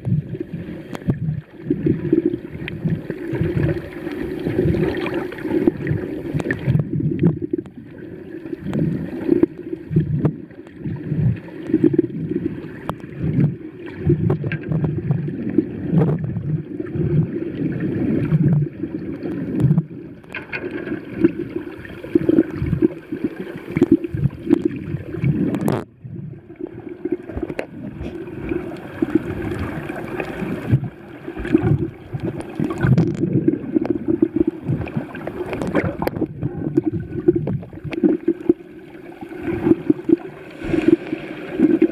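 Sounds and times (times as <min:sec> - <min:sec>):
underwater water sloshing: 0:00.0 - 0:41.9.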